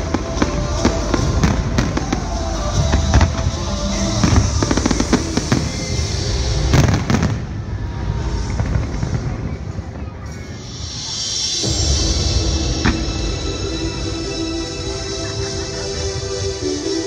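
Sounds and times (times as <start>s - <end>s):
music playing: 0.0s - 17.0s.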